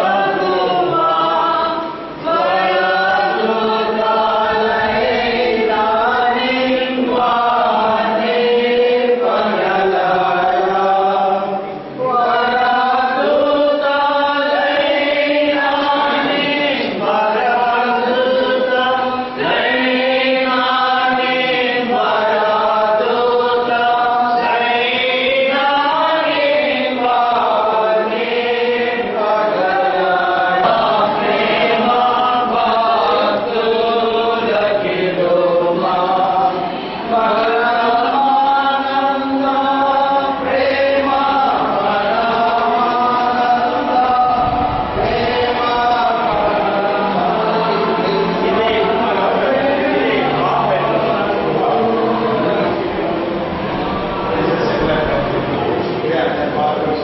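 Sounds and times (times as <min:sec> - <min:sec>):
group singing slow devotional song: 0:00.0 - 0:57.0.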